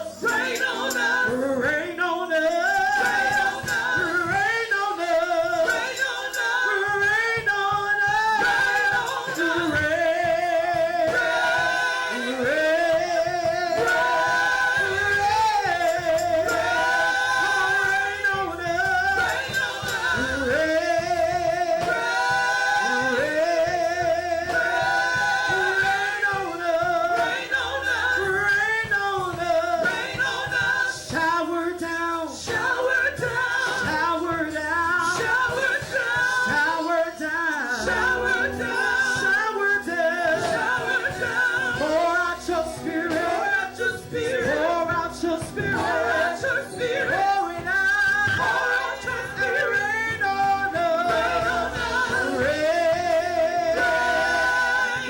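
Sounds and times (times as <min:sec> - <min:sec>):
choir singing worship song: 0:00.0 - 0:55.0.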